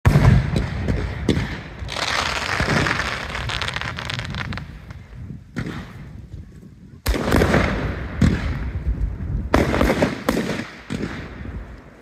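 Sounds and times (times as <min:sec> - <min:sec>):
crackling of firework sparks: 0:00.1 - 0:12.0
fireworks bangs: 0:00.1 - 0:12.0.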